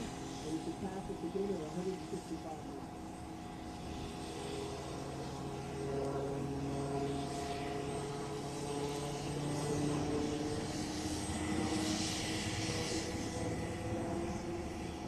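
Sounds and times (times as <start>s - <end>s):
helicopter drone overhead: 0.0s - 15.0s.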